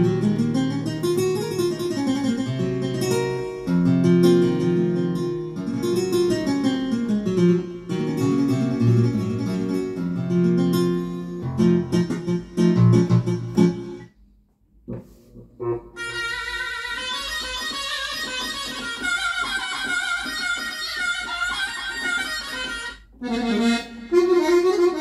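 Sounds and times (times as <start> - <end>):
plucked guitar notes on keyboard: 0.0 - 14.1, 14.9 - 25.0.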